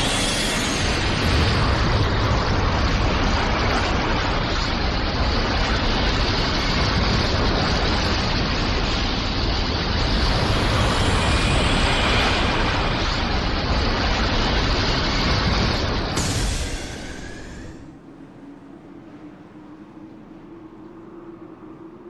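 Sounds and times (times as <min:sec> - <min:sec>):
rushing noise with deep rumble: 0:00.0 - 0:22.0.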